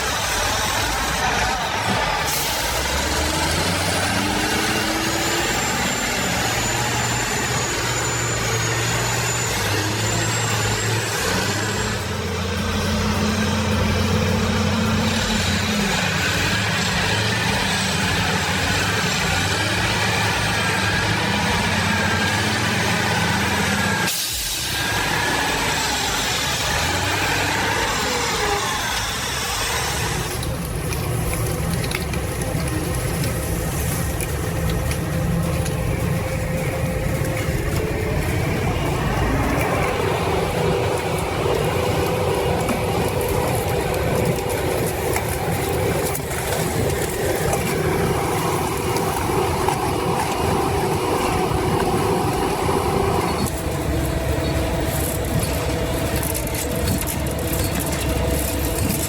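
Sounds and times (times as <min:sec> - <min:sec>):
heavy machinery engine running: 0:00.0 - 0:59.0.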